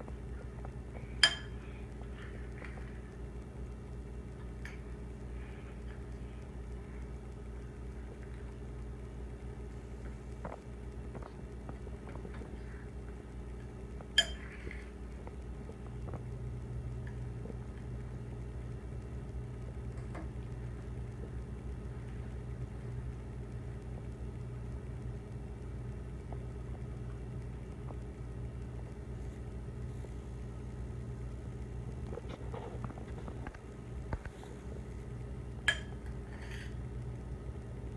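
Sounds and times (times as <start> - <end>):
low room hum: 0.0 - 37.9.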